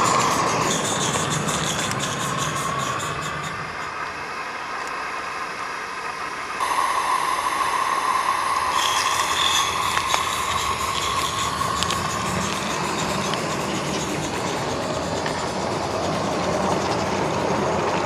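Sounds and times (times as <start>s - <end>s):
steam locomotive hissing: 0.0s - 3.9s, 6.6s - 18.0s
wheels clicking on track: 0.0s - 5.0s, 6.4s - 18.0s.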